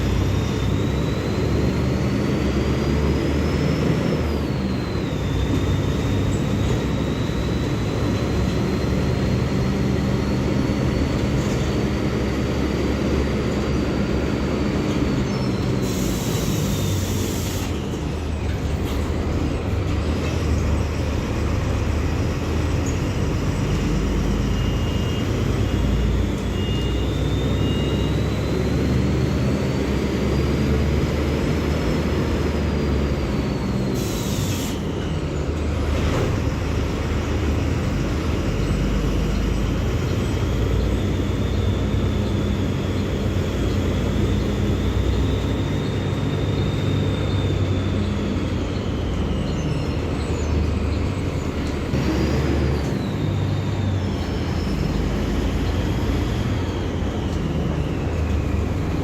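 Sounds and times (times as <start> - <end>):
bus engine whining: 0.0 - 59.0.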